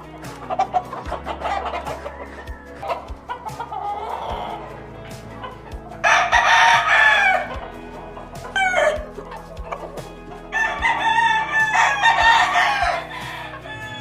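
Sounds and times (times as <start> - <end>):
roosters crowing: 0.0 - 14.0.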